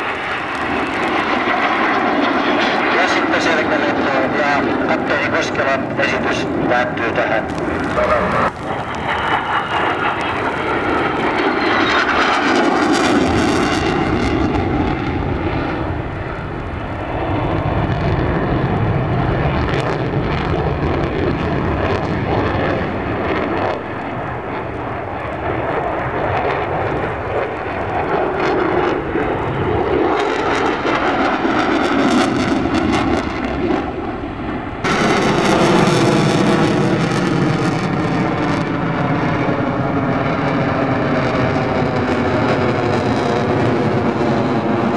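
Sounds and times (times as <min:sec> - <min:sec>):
aircraft engine: 0:00.0 - 0:44.9.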